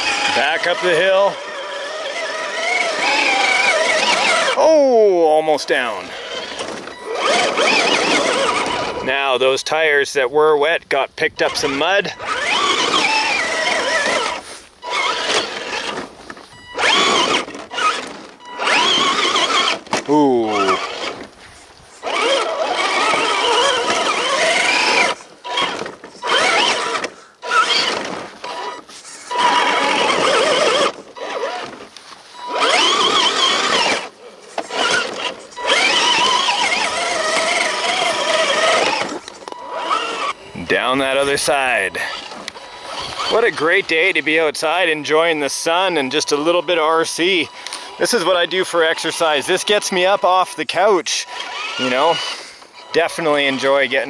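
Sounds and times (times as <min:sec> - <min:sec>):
electric motor whining: 0:00.0 - 0:09.4, 0:11.2 - 0:54.0
tires spinning in dirt: 0:00.0 - 0:10.0, 0:10.6 - 0:54.0.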